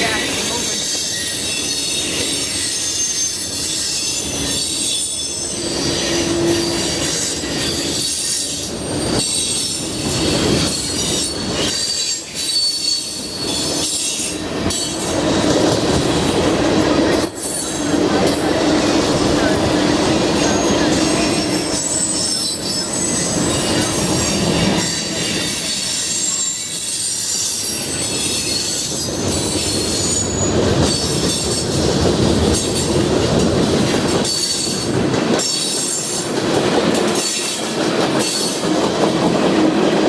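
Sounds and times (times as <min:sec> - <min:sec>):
train rumble and clatter: 0:00.0 - 0:40.0
train wheels squealing: 0:00.0 - 0:40.0.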